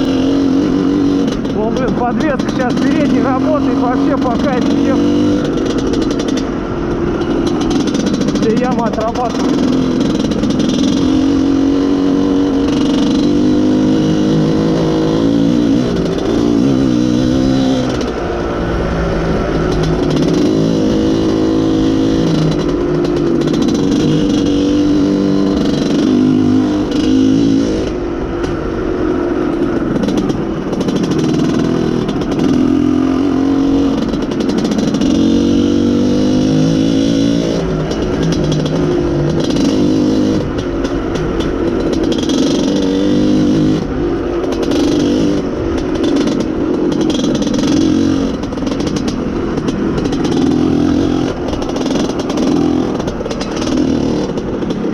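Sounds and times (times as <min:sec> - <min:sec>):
two-stroke motorcycle engine revving: 0:00.0 - 0:54.9.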